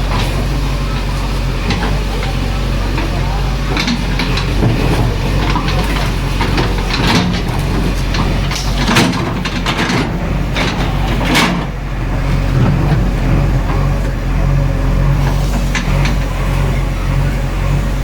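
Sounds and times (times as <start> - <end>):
bucket scraping clanks: 0.0 - 17.8
diesel engine running: 0.0 - 18.0.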